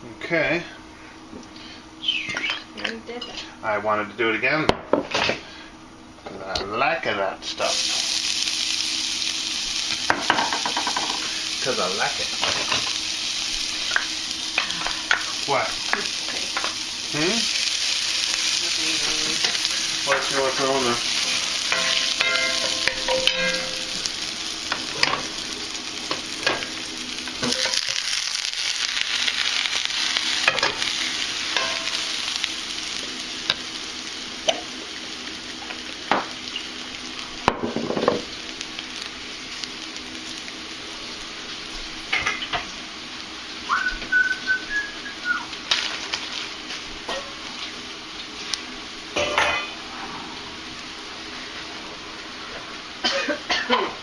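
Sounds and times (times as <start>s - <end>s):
food sizzling in frying pan: 0.5s - 54.0s.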